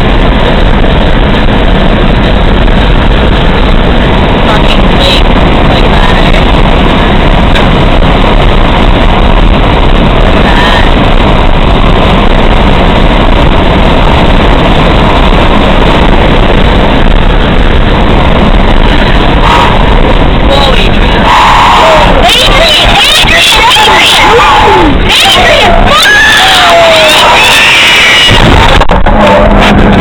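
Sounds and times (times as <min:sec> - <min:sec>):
car road and wind noise: 0:00.0 - 0:30.0.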